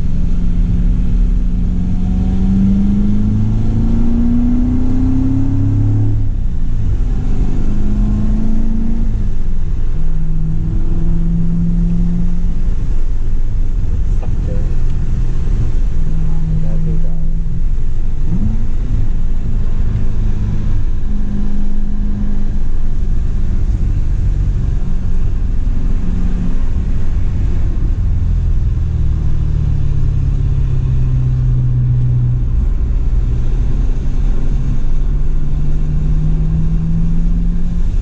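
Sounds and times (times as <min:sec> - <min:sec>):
car engine revving: 0:00.0 - 0:38.0
road and tyre noise: 0:00.0 - 0:38.0.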